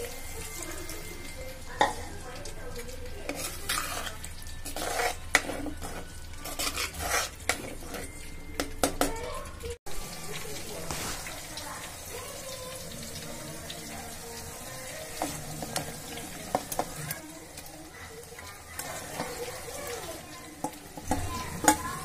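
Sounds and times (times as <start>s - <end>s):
gravy boiling and sizzling: 0.0s - 22.0s.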